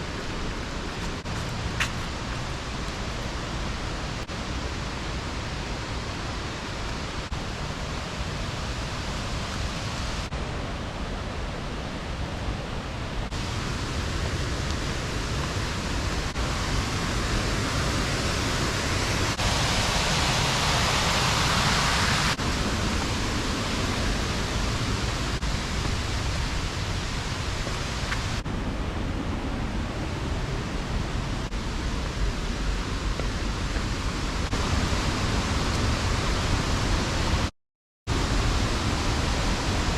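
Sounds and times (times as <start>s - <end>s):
waterfall rushing: 0.0s - 37.5s.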